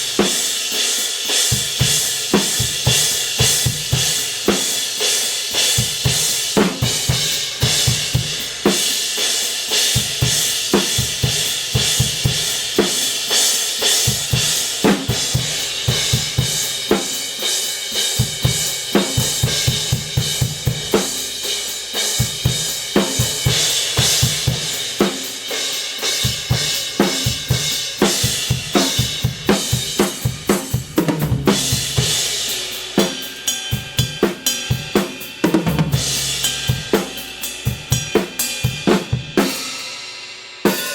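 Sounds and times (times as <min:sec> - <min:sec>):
drum kit groove: 0:00.0 - 0:40.9.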